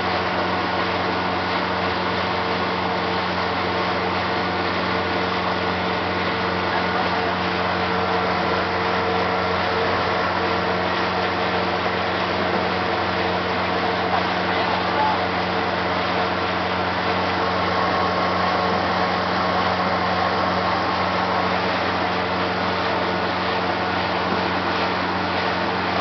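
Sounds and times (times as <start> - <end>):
outboard motor running: 0.0 - 26.0
rushing water: 0.0 - 26.0.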